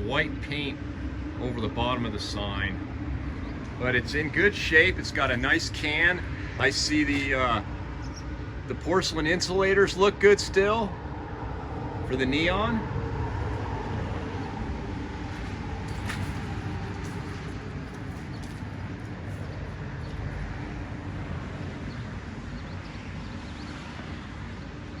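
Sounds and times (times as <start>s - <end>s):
low rumbling background noise: 0.0s - 25.0s.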